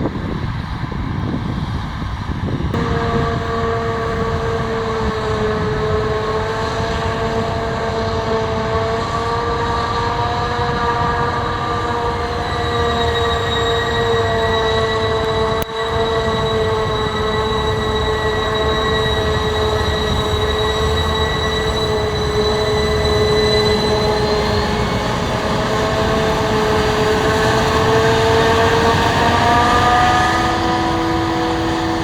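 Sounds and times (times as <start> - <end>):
high machinery whine: 0.0 - 32.0
low engine rumble: 0.0 - 32.0.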